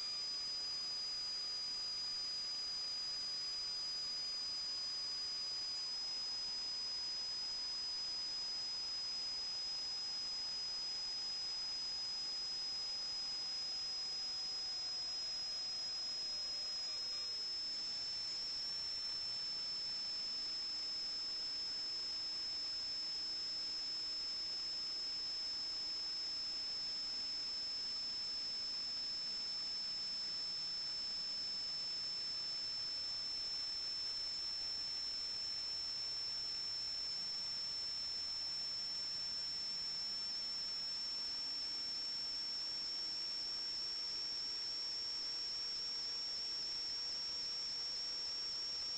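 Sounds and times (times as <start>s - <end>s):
high-pitched electronic whine: 0.0s - 48.9s.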